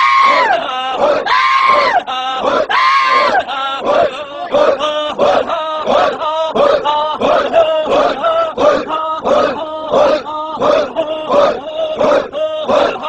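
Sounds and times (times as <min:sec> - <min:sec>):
man making chant-like vocal calls: 0:00.0 - 0:13.0.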